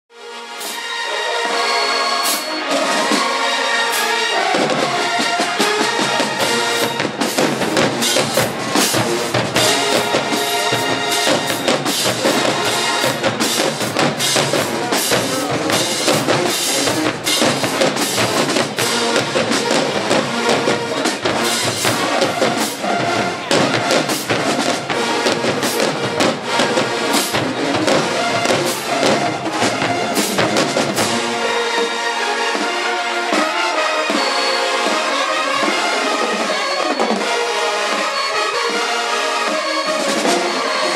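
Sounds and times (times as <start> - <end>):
marching band playing: 0.2 - 40.9
drumline pounding: 2.2 - 40.9.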